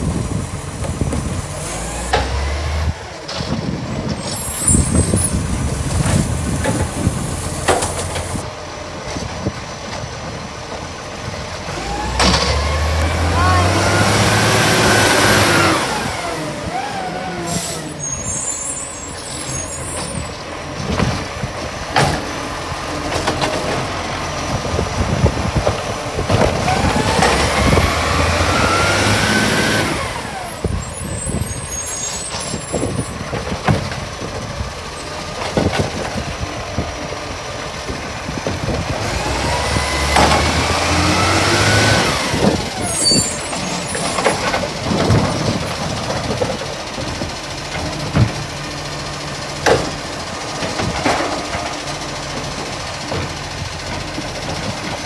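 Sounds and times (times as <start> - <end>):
garbage truck engine revving: 0.0 - 55.0.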